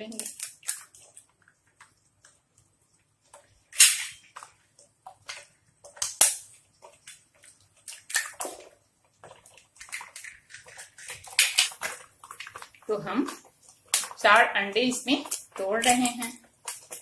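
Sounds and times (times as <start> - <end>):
egg splattering in hot oil: 0.0 - 1.4, 3.6 - 17.0
eggshell cracking: 0.0 - 2.7, 3.3 - 17.0.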